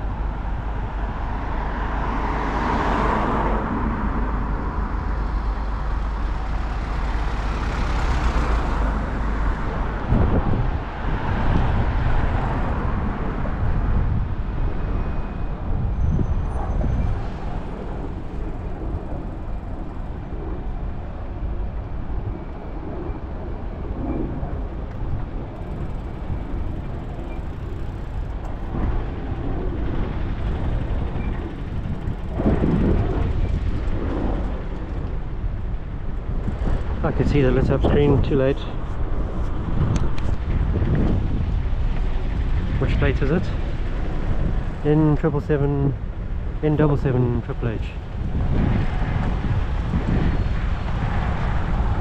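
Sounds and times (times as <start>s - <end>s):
slow road traffic rumble: 0.0s - 52.0s.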